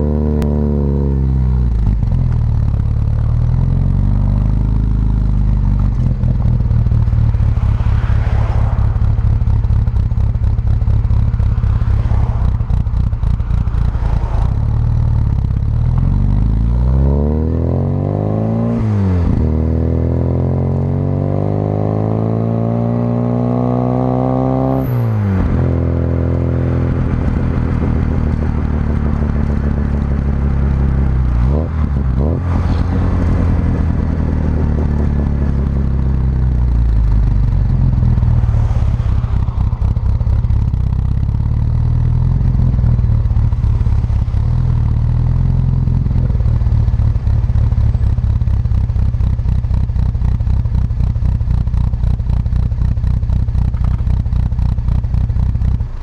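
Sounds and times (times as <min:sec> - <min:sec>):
car engine exhaust revving: 0:00.0 - 0:56.0.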